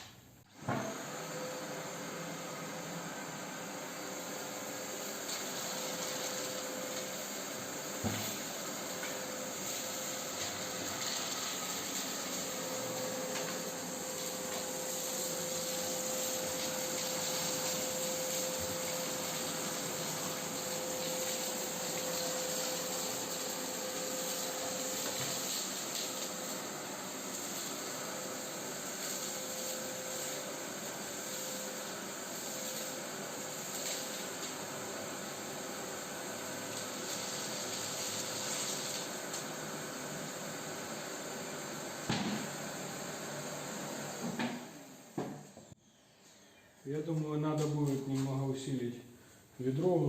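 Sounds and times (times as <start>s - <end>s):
shop vacuum running: 0.0s - 50.0s.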